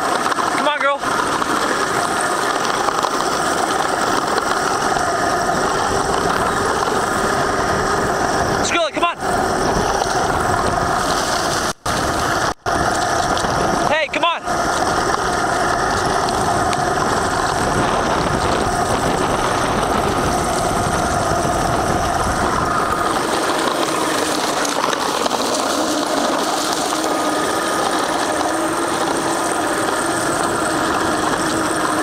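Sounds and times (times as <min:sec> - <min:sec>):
heavy rumble: 0:00.0 - 0:32.0
small motor whining: 0:00.0 - 0:32.0.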